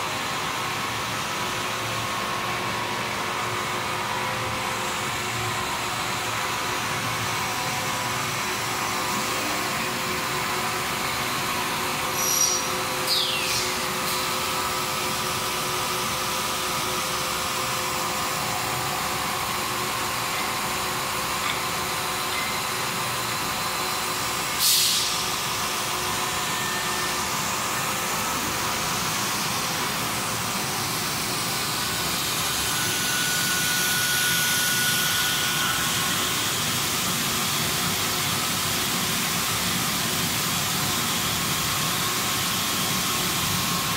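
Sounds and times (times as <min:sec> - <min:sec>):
cooling fans: 0:00.0 - 0:43.9
extrusion machinery drone: 0:00.0 - 0:43.9.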